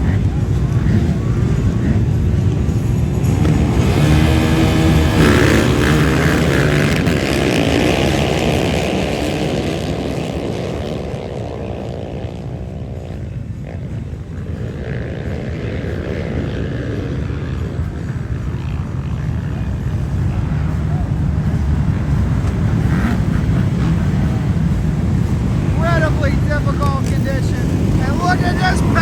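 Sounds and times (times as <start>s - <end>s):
dirt bike engines running: 0.0s - 29.0s.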